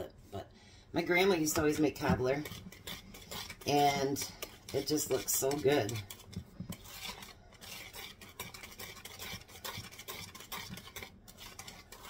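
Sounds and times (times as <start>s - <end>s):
whisk swishing in bowl: 1.0s - 12.0s.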